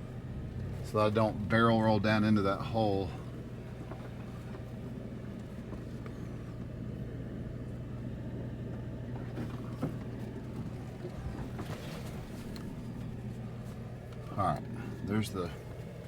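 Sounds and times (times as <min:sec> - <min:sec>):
pickup truck engine running slowly: 0:00.0 - 0:16.0.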